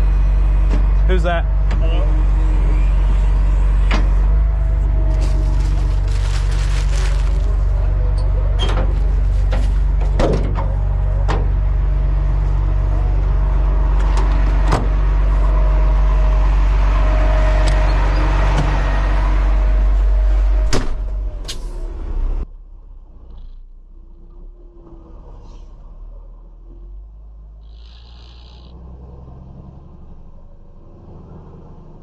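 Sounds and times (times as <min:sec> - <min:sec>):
diesel truck engine droning: 0:00.0 - 0:32.0.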